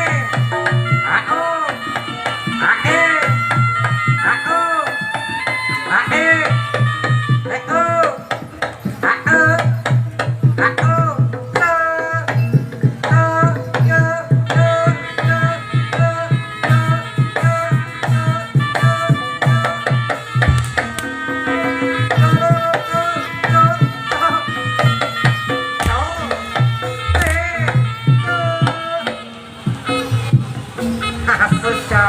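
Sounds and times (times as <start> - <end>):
hand drum beat: 0.0 - 30.9.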